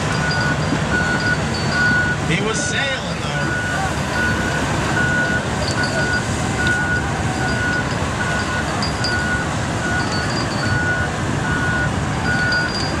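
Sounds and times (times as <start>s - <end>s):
engine rumble: 0.0s - 13.0s
reversing alarm beeping: 0.0s - 13.0s.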